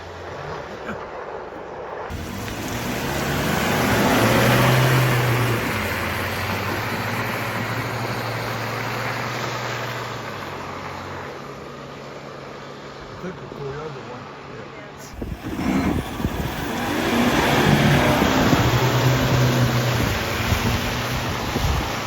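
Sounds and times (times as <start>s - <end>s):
off-road vehicle engine: 0.0s - 22.0s.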